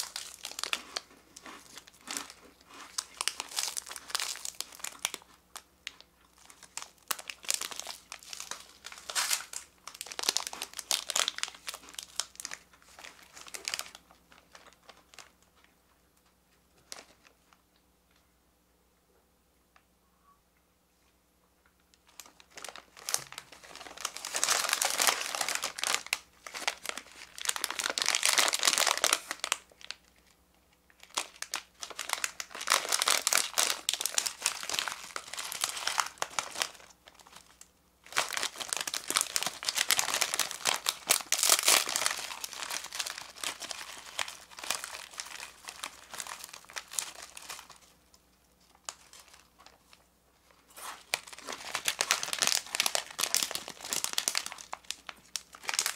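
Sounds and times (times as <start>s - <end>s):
plastic wrapper crinkling and tearing: 0.0s - 17.5s, 21.9s - 55.9s.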